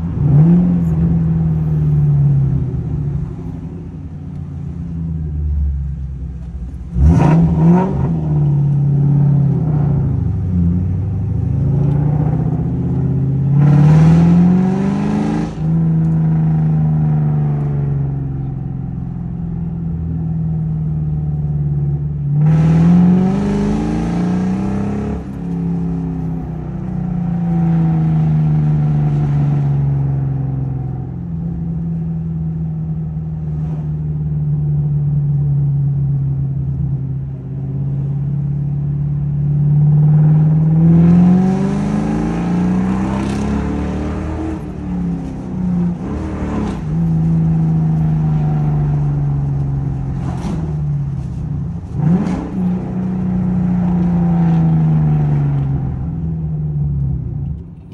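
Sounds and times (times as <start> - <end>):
car engine accelerating: 0.0 - 57.9.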